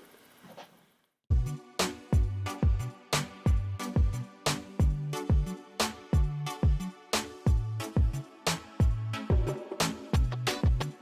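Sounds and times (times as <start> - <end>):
funk music with drums and bass: 1.3 - 11.0.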